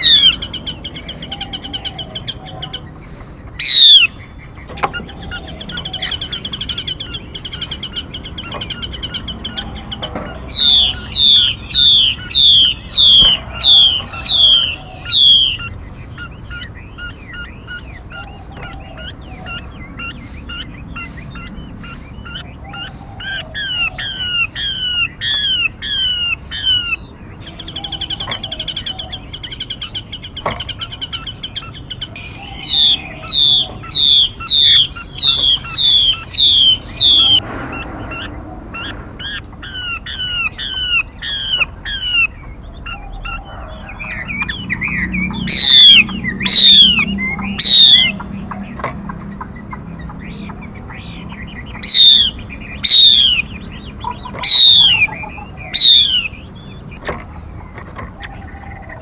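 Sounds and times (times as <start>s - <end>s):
sharp down-swept bird notes: 0.0s - 57.0s
bird trill: 0.0s - 59.0s
songbird whistled notes: 3.6s - 30.0s, 30.6s - 48.6s, 50.3s - 56.9s.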